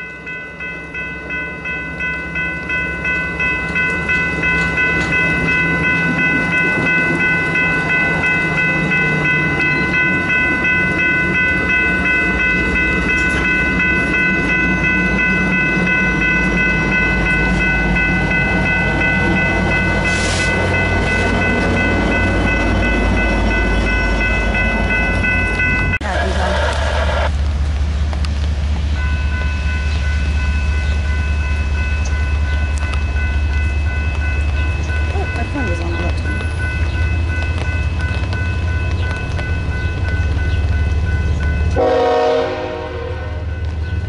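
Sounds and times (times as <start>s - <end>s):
crossing warning bells ringing: 0.0s - 44.0s
train wheels rumbling on rails: 0.0s - 44.0s.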